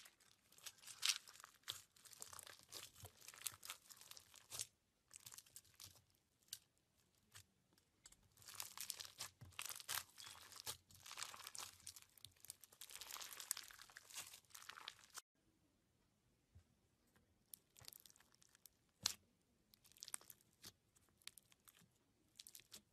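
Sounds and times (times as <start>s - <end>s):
slime with beads crackling: 0.0s - 15.2s, 17.4s - 22.9s.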